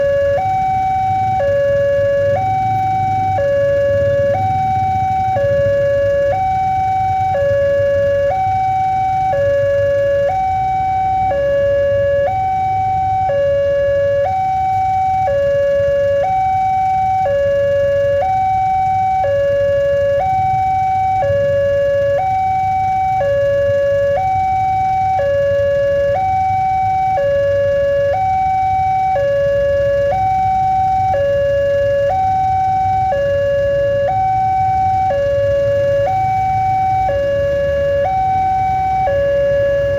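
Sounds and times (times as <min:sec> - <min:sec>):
level-crossing two-tone warning siren: 0:00.0 - 0:39.9.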